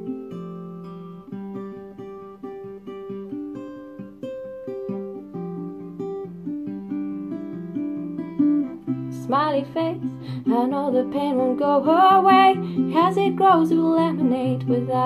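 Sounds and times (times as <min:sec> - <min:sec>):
solo acoustic guitar: 0:00.0 - 0:15.0.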